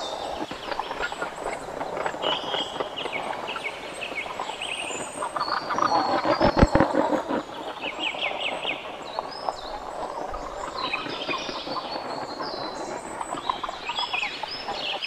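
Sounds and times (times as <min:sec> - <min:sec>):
steady noisy background: 0:00.0 - 0:15.0.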